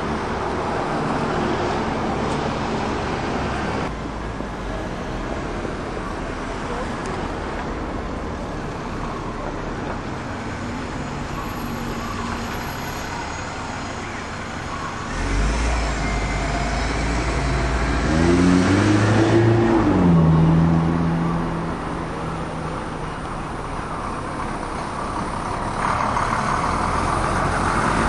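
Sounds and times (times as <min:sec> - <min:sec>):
diesel vehicle engine accelerating: 0:00.0 - 0:28.0
road traffic: 0:00.0 - 0:28.0.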